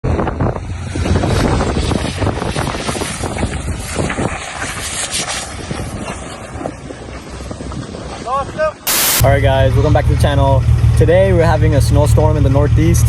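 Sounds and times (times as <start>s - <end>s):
wind buffeting microphone: 0.0s - 12.4s
vehicle running: 0.0s - 13.0s.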